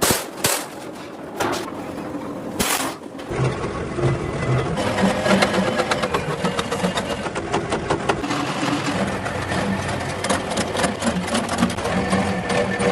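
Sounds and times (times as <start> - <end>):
steady machinery din: 0.0 - 12.9.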